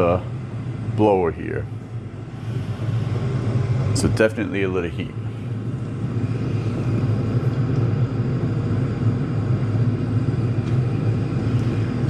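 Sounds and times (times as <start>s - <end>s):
air heater humming: 0.0s - 12.0s.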